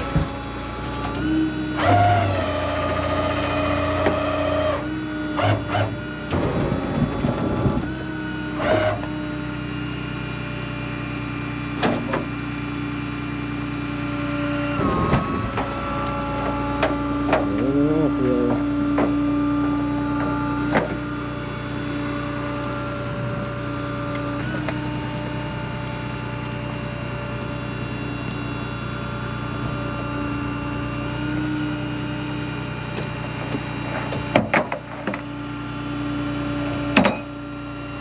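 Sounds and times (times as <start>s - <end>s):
tow truck hydraulic whine: 0.0s - 38.0s.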